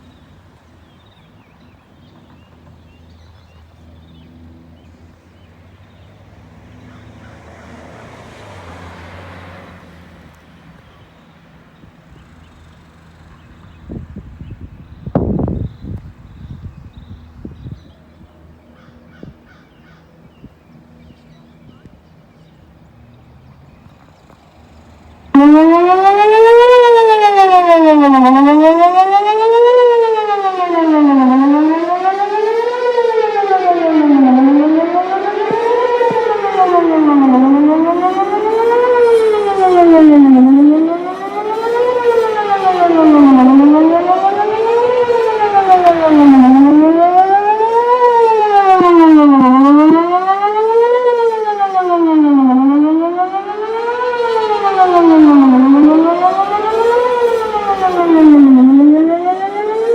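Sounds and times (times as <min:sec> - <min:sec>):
warning siren wailing: 0:00.0 - 0:24.1, 0:25.0 - 0:59.9.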